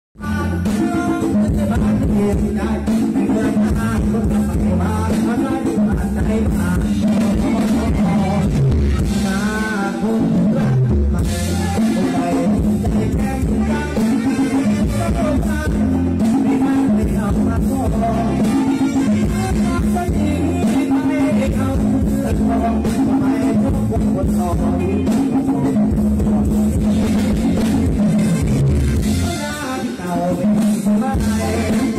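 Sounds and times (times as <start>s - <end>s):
live band music: 0.2s - 31.9s
person singing: 0.2s - 31.9s
steady drum beat: 0.2s - 31.9s.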